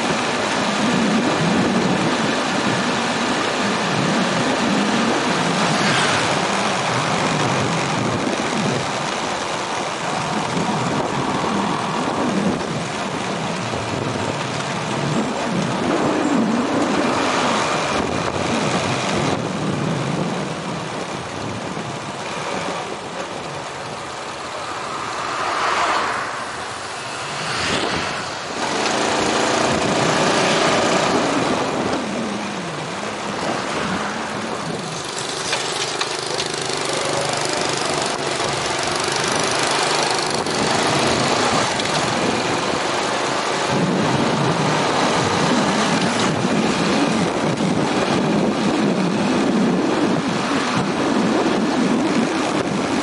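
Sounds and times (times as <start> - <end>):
motorbike engine humming: 0.0 - 51.0
passing traffic: 0.0 - 53.0
wind and road noise: 0.0 - 53.0.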